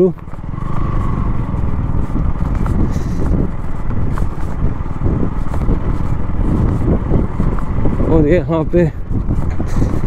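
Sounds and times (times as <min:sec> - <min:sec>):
motorcycle engine rumble: 0:00.0 - 0:10.0.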